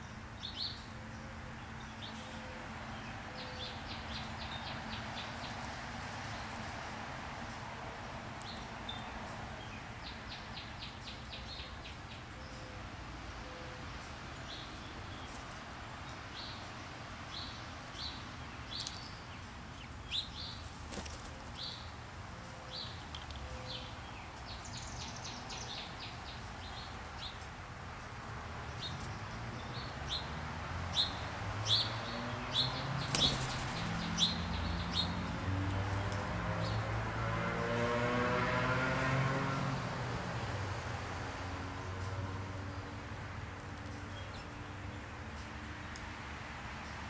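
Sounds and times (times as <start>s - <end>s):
small birds chirping: 0.0s - 6.9s, 7.5s - 37.0s, 41.7s - 46.2s.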